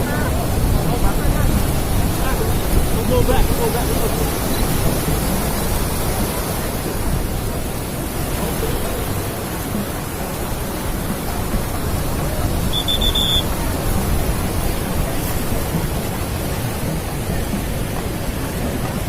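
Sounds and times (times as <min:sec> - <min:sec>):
heavy surf on beach: 0:00.0 - 0:19.0.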